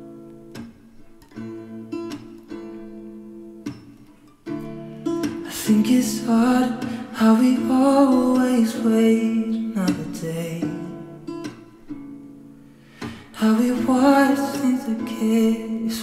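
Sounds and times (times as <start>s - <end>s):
acoustic guitar song with singing: 0.0s - 16.0s.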